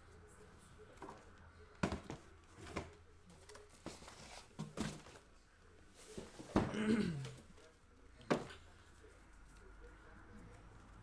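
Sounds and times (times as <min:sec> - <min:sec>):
faint rustling of card packs: 0:00.0 - 0:11.0.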